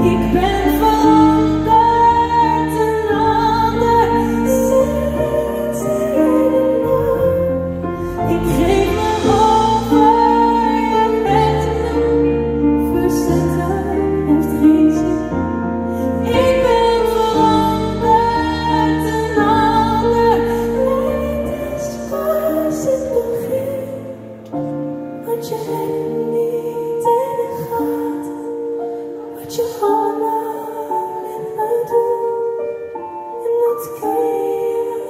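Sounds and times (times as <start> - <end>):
woman singing ballad into microphone: 0.0 - 35.0.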